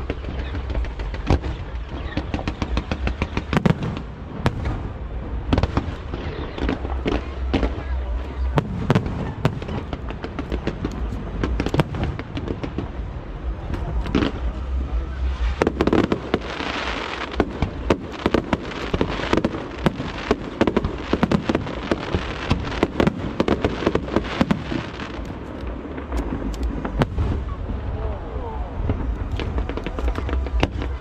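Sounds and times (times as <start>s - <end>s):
fireworks bangs: 0.0s - 31.0s
fireworks crackling hiss: 0.0s - 31.0s
low rumble: 3.7s - 31.0s.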